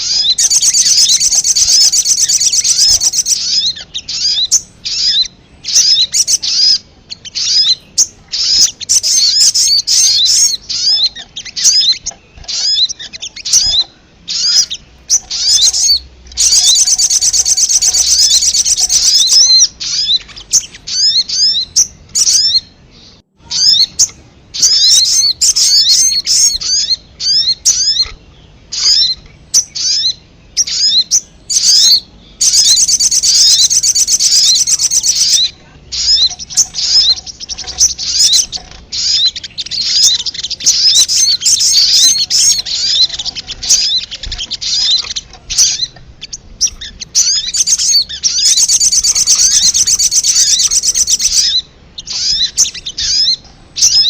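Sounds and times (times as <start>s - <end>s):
bird trills: 0.0s - 54.0s
sunbirds chirping: 0.0s - 54.0s.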